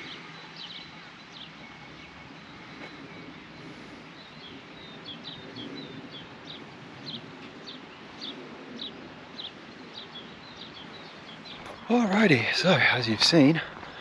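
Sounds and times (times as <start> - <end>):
outdoor background hiss: 0.0 - 14.0
songbird chirping: 0.0 - 14.0.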